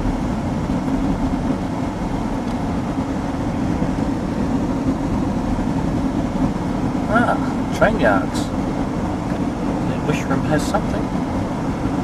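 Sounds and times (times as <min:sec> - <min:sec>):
road and engine noise in car: 0:00.0 - 0:12.0.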